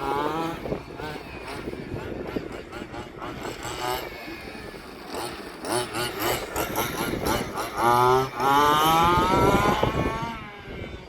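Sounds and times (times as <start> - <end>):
small rc car engines revving: 0.0 - 11.0.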